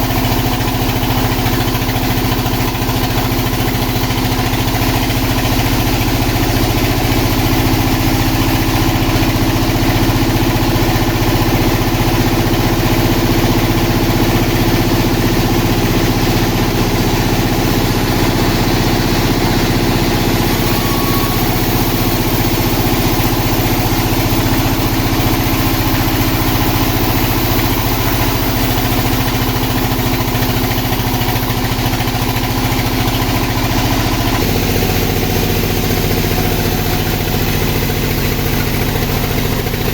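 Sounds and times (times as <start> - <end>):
sawmill engine drone: 0.0 - 39.9.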